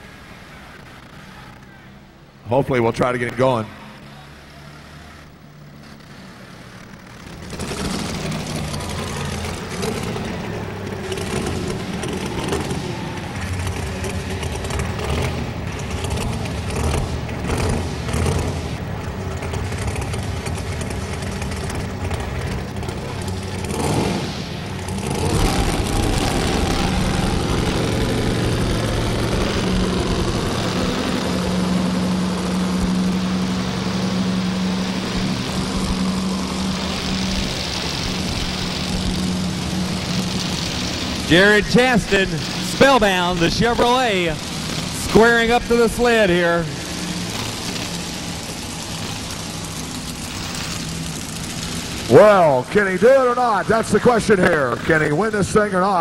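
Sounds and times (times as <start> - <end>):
truck engine running loud: 0.0 - 56.0.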